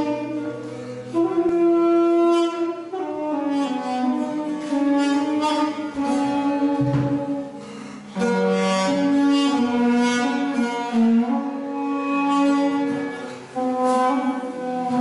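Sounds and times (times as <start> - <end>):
duduk slow melody: 0.0 - 15.0.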